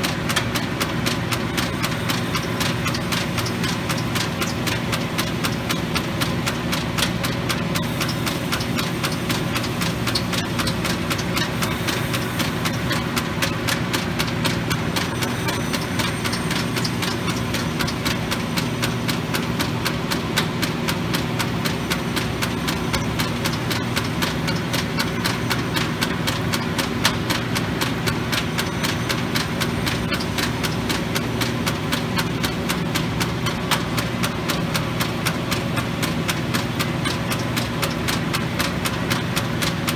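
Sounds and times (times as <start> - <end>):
surface grinder hum and ticking: 0.0 - 39.9.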